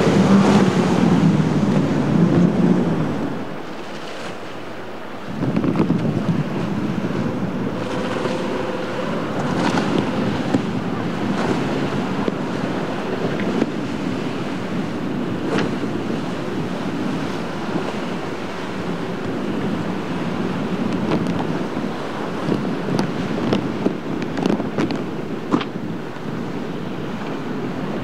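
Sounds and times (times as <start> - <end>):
surf breaking: 0.0 - 25.9
outboard boat engines running: 0.0 - 28.0
wind buffeting microphone: 0.0 - 28.0.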